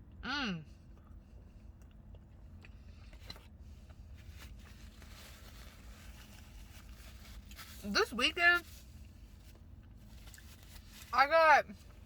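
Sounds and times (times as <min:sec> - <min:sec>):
chewing and handling food: 0:00.0 - 0:08.0, 0:08.8 - 0:11.1
low steady rumble: 0:00.0 - 0:12.0.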